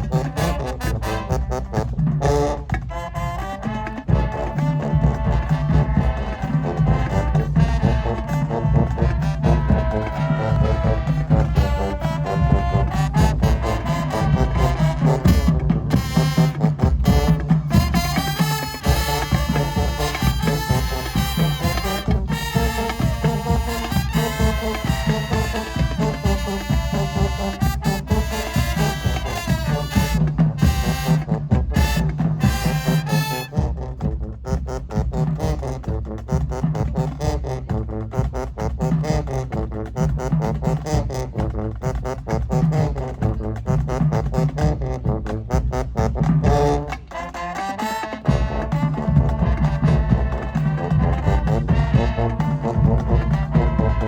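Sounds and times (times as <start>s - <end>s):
brass horns: 0.0s - 54.0s
heavy drums: 0.0s - 54.0s.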